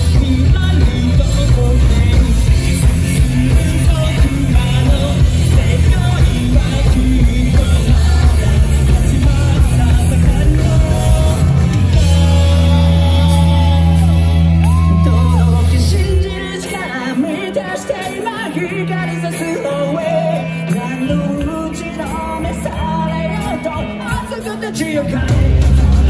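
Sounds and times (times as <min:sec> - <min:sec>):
live rock band playing: 0:00.0 - 0:26.0
voices singing and shouting: 0:00.0 - 0:26.0.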